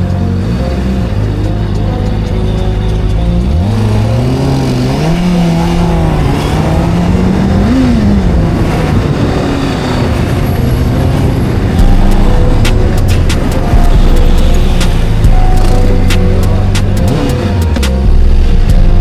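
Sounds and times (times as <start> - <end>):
sport bike engine revving: 0.0 - 19.0.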